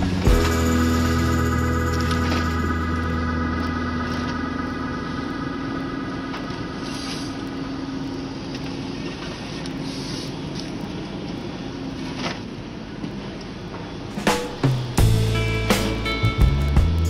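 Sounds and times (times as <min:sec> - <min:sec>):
machine engine droning: 0:00.0 - 0:17.0.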